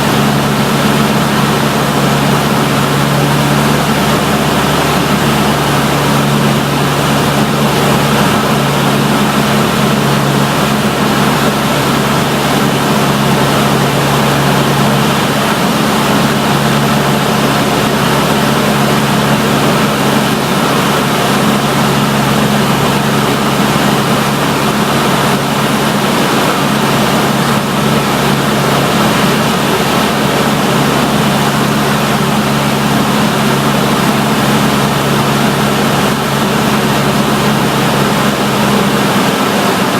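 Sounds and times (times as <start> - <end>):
aircraft engine and propeller drone: 0.0 - 39.9
wind and air rush: 0.0 - 39.9.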